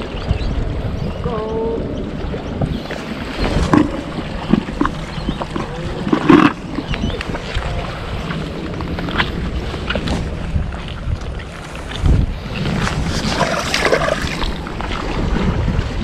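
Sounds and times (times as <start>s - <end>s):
water at sea shore: 0.0s - 16.0s
wind buffeting microphone: 0.0s - 16.0s.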